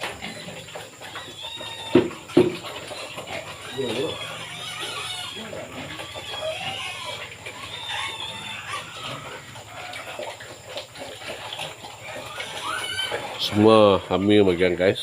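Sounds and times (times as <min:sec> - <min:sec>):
pigs chewing and crunching: 0:00.0 - 0:15.0.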